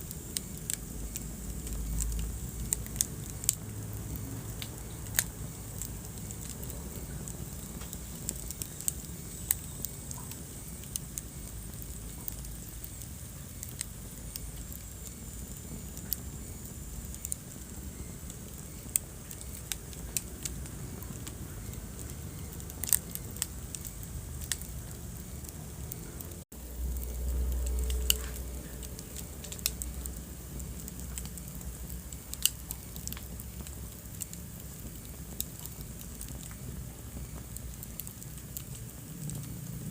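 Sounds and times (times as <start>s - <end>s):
low rumble: 0.0s - 39.9s
wood fire crackling and popping: 0.0s - 39.9s.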